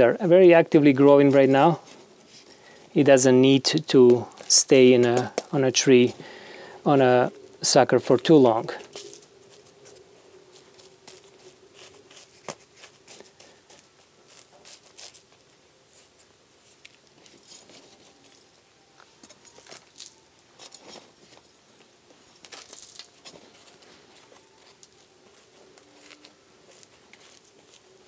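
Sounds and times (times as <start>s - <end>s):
potting mix scratching and crackling: 0.0s - 18.5s, 19.2s - 28.0s
low steady hum: 0.0s - 28.0s.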